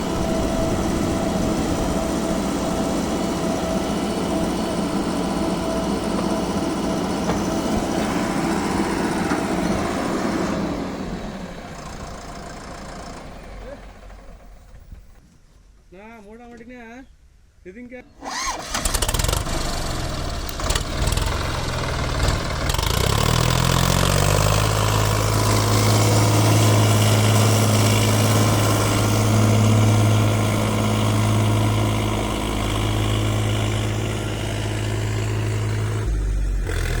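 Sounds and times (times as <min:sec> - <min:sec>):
heavy diesel engine running: 0:00.0 - 0:15.2, 0:18.3 - 0:37.0.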